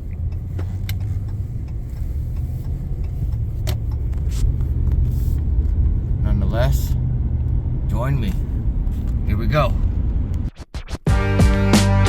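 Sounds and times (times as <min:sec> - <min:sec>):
vehicle road and engine rumble: 0:00.0 - 0:10.7.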